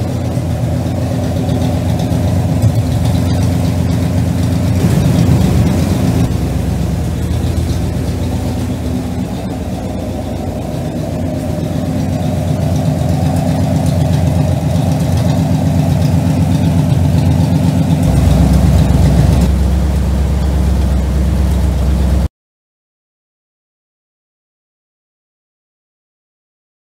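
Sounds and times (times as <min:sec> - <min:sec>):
car engine idling: 0:00.0 - 0:22.3.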